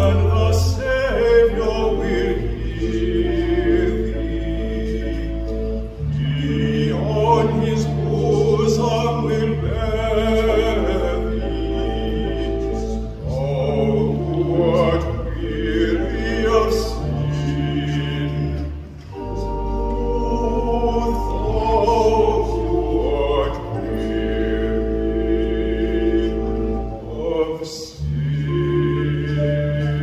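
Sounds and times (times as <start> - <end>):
baritone singing: 0.0 - 30.0
sustained organ chords: 0.0 - 30.0.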